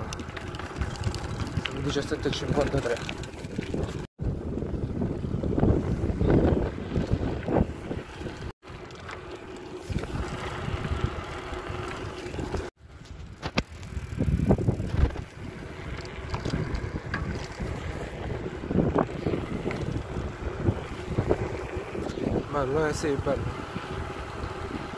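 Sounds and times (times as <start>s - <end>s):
wind buffeting microphone: 0.0s - 8.5s, 9.4s - 24.9s.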